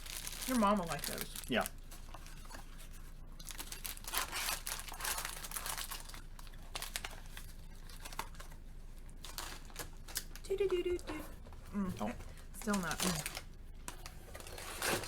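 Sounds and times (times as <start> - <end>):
plastic packaging crinkling: 0.0 - 11.2, 12.1 - 15.0.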